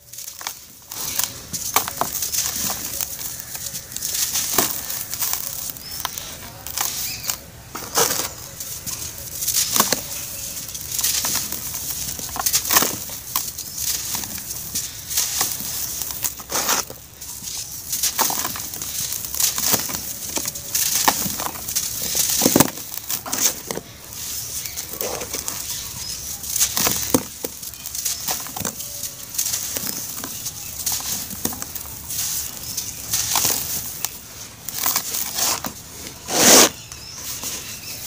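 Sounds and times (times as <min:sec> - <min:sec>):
hands crunching dry powdery chunks: 0:00.0 - 0:38.0.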